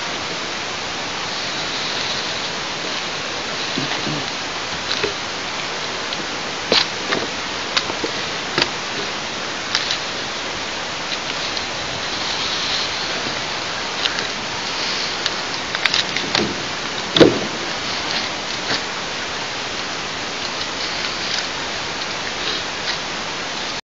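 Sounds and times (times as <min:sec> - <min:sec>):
steady outdoor hiss: 0:00.0 - 0:23.8.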